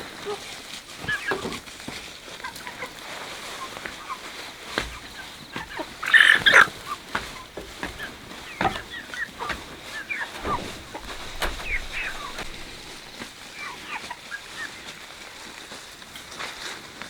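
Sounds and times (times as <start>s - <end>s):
chickens clucking: 0.1s - 15.9s.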